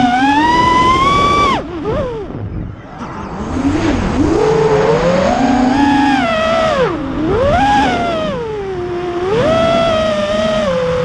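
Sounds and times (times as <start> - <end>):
drone motors whining: 0.0 - 11.0
wind buffeting microphone: 0.0 - 11.0.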